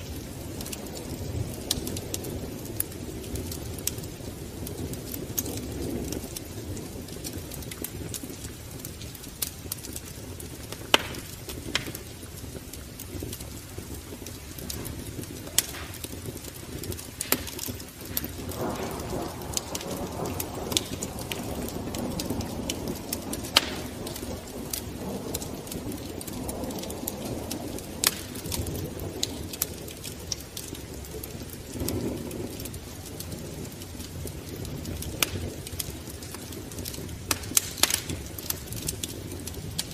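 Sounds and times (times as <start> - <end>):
fire crackling with sharp pops: 0.0 - 39.9.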